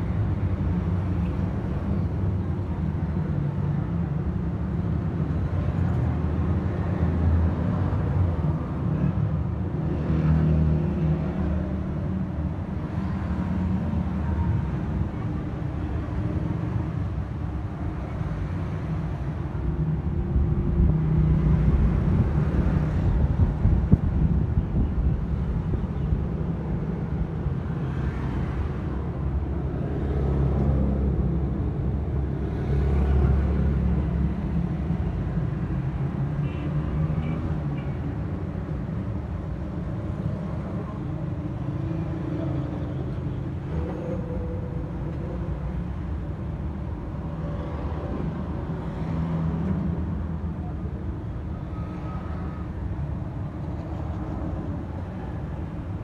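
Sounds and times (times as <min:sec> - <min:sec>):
passing traffic rumble: 0:00.0 - 0:56.0.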